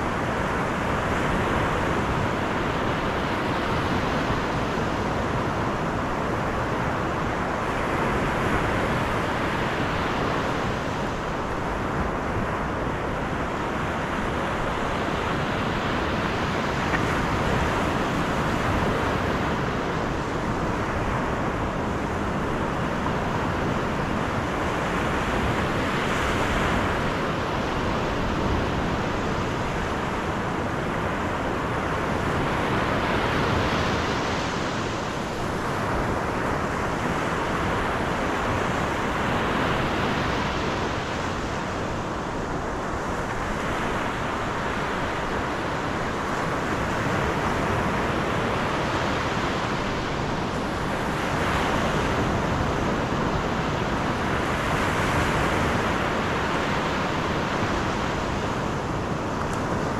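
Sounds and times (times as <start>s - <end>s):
wind and road noise from car: 0.0s - 59.9s.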